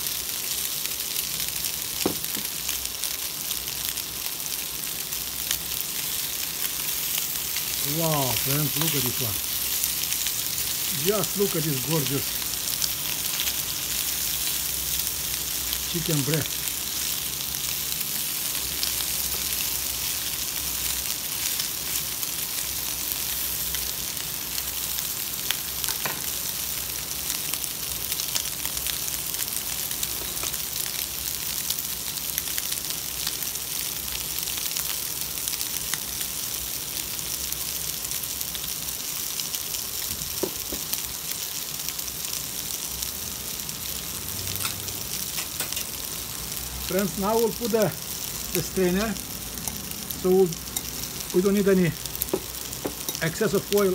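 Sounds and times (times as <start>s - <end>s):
chicken sizzling in a frying pan: 0.0s - 53.9s
small oil crackles: 0.2s - 53.9s.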